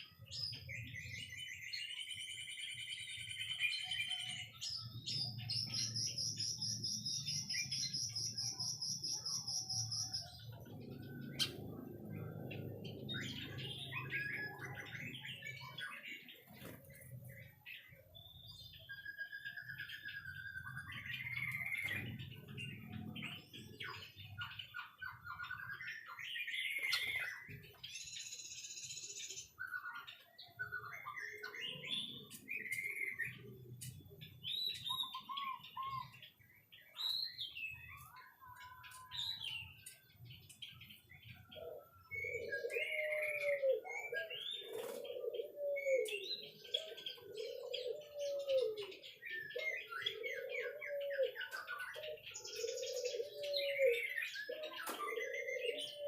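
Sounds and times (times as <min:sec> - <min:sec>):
bird whistled song: 0:00.0 - 0:56.0.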